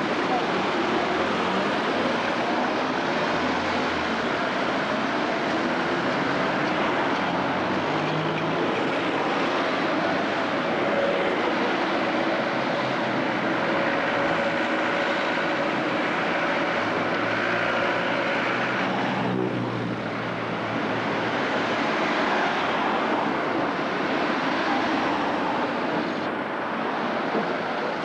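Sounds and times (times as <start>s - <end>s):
car engines running: 0.0s - 28.0s
tyre noise on road: 0.0s - 28.0s.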